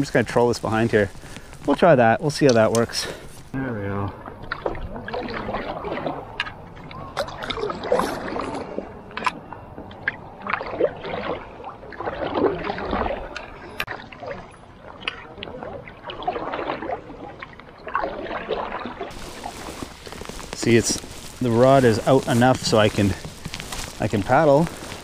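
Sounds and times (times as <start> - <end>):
paddle splashing through water: 3.9 - 25.0.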